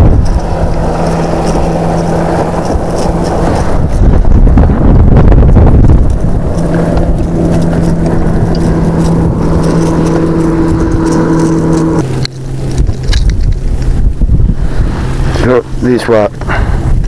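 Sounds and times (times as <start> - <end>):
motorboat engine running: 0.0 - 17.0
wind rumble on microphone: 0.0 - 17.0.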